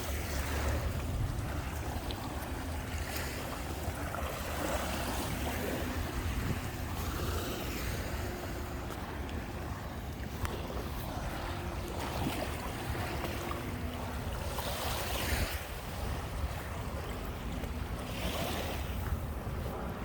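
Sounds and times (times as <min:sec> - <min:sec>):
small waves washing onto beach: 0:00.0 - 0:20.0
wind rumble on microphone: 0:00.0 - 0:20.0.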